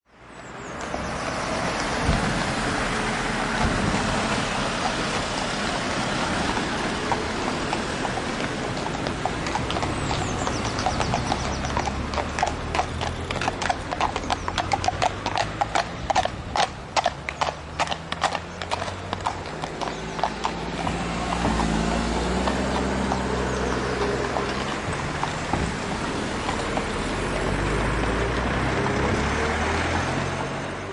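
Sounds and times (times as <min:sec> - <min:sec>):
horse hooves clip-clopping: 0:00.8 - 0:30.9.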